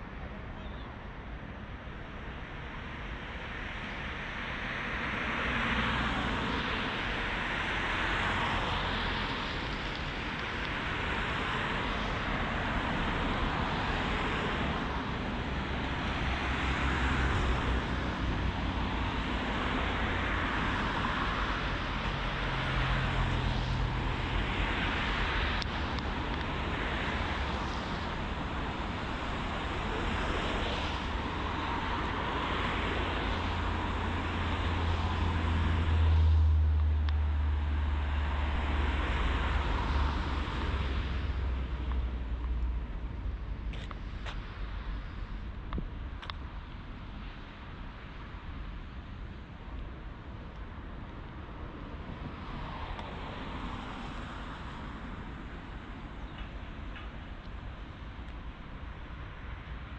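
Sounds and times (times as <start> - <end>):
road traffic passing: 2.0 - 59.9.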